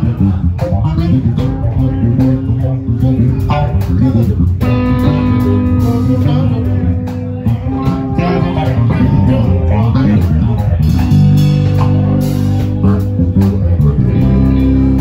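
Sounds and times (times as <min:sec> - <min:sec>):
bass guitar: 0:00.0 - 0:15.0
drum kit: 0:00.0 - 0:15.0
electric guitars: 0:00.0 - 0:15.0.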